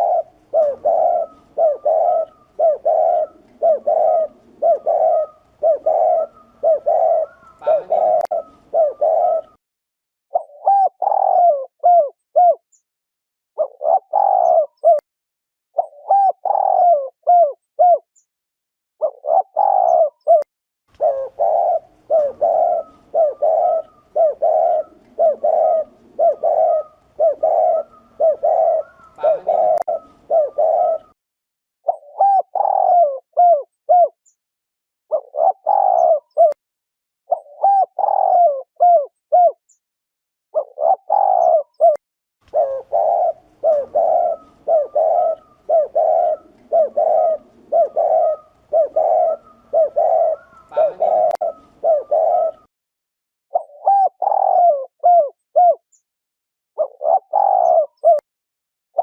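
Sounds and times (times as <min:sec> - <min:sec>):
dove cooing: 0:00.0 - 0:09.6, 0:10.3 - 0:12.6, 0:13.6 - 0:15.0, 0:15.8 - 0:18.0, 0:19.0 - 0:31.2, 0:31.9 - 0:34.2, 0:35.1 - 0:36.6, 0:37.3 - 0:39.6, 0:40.6 - 0:52.7, 0:53.5 - 0:55.8, 0:56.8 - 0:58.2.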